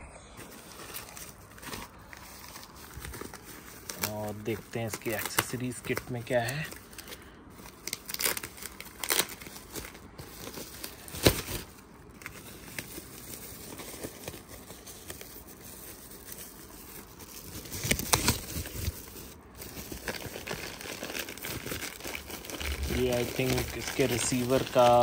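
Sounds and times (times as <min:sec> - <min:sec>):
packaging rustling and crinkling: 0:00.2 - 0:25.0.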